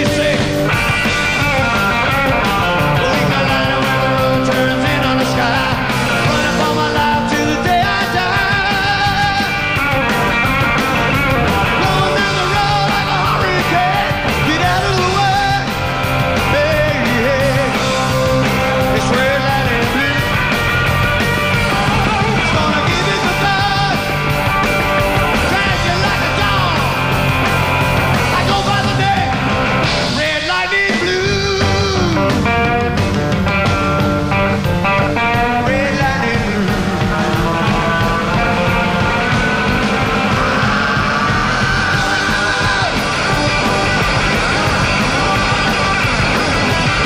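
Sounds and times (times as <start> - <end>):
bass guitar: 0.0 - 47.0
drums: 0.0 - 47.0
electric guitar: 0.0 - 47.0.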